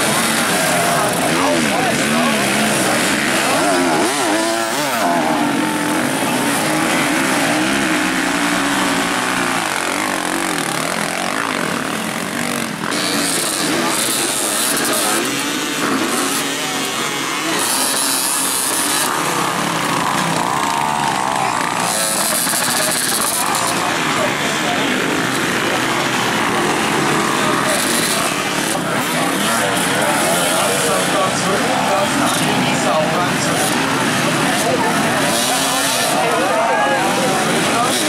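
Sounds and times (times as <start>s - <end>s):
dirt bike engines revving: 0.0s - 38.0s
wheels spinning in mud: 0.0s - 38.0s.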